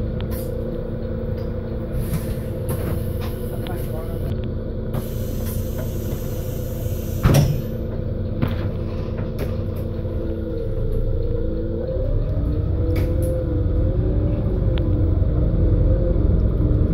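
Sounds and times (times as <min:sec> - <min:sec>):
bus engine idling: 0:00.0 - 0:16.9.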